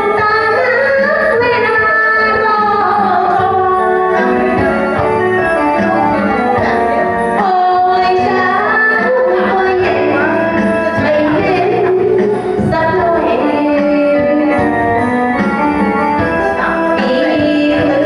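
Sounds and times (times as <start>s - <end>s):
keyboard backing track: 0.0s - 18.0s
woman singing karaoke: 0.0s - 18.0s.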